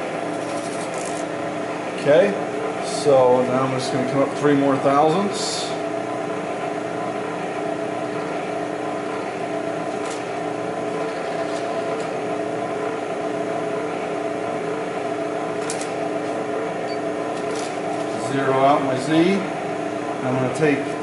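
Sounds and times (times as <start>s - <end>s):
milling machine running: 0.0s - 21.0s.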